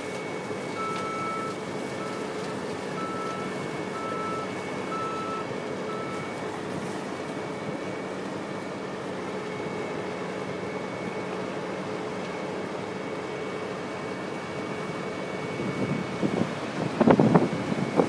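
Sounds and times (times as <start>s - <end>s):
high machine whine: 0.0s - 18.0s
milling machine diesel drone: 0.0s - 18.0s.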